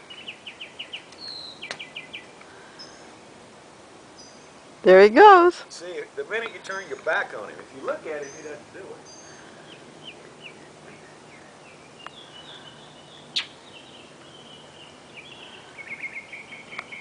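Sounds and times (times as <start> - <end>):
birds chirping: 0.0 - 3.3, 4.0 - 17.0.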